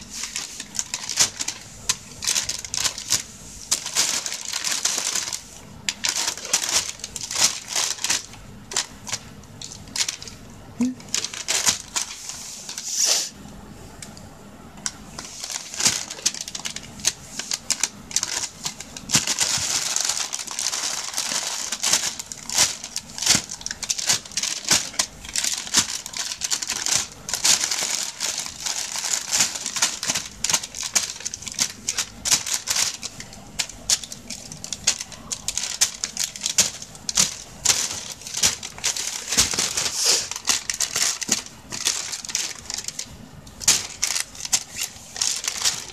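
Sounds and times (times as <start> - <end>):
plastic bag crinkling: 0.0 - 12.9, 14.8 - 45.9.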